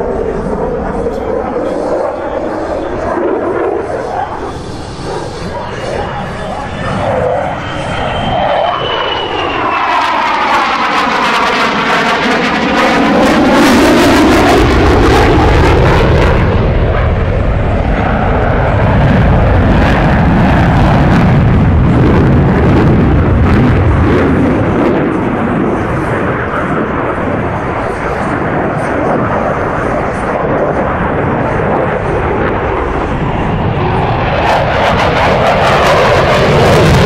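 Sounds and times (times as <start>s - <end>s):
jet afterburner roar with crackling: 0.0s - 37.0s.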